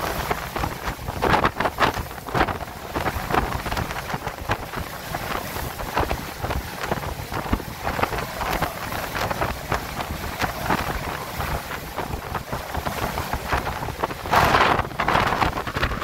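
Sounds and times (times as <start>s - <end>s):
gusting wind buffeting microphone: 0.0s - 16.0s
rain spattering on plastic panels: 0.0s - 16.0s.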